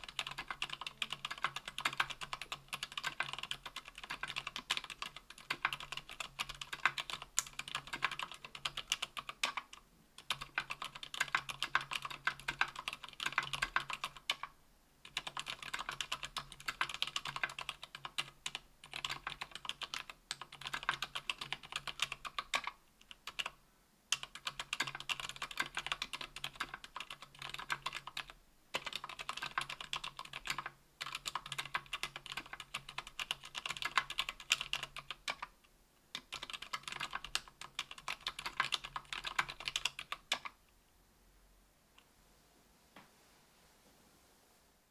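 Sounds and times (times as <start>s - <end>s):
soft keyboard keystrokes: 0.0s - 14.5s, 15.1s - 23.5s, 24.1s - 35.5s, 36.1s - 40.6s.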